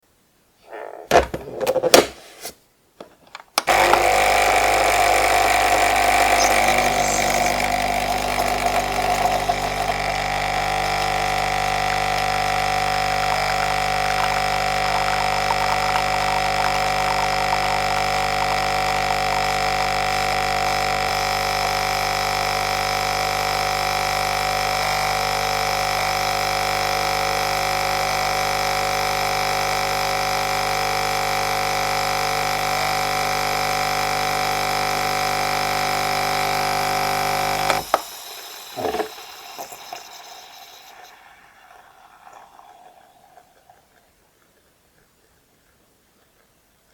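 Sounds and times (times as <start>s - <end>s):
coffee machine pump humming: 3.6s - 45.5s.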